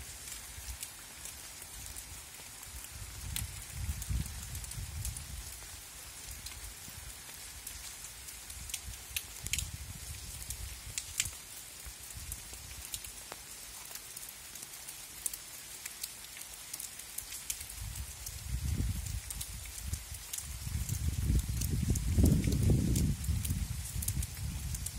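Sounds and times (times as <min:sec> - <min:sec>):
rain on leaves and soil: 0:00.0 - 0:24.9.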